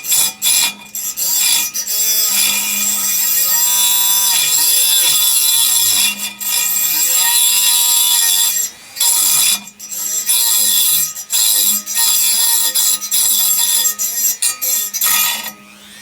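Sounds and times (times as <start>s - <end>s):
power tool cutting metal whine: 0.0s - 16.0s.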